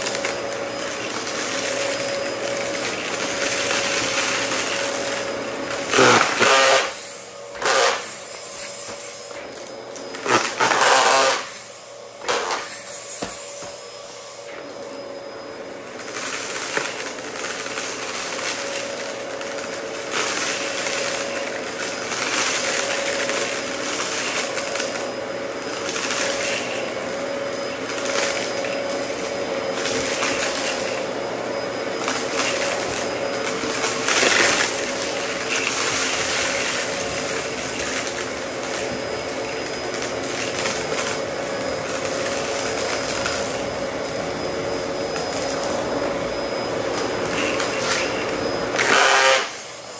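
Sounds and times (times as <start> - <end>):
vacuum motor whine: 0.0 - 49.9.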